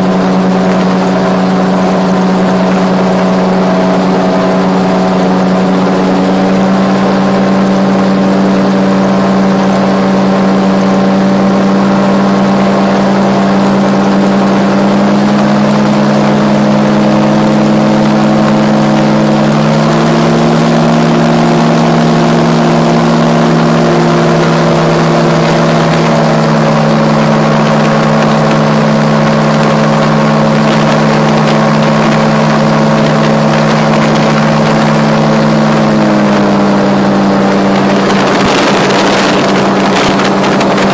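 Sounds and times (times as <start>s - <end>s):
gyroplane engine and propeller: 0.0s - 40.9s.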